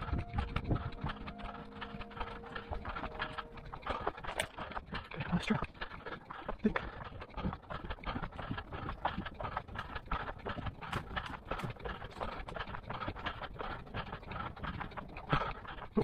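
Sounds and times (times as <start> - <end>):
running footsteps outdoors: 0.0 - 16.0.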